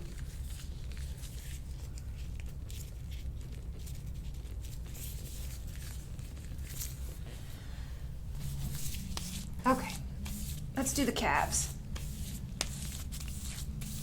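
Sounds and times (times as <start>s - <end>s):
rustling of hands and clothing: 0.0s - 14.0s
steady low hum: 0.0s - 14.0s.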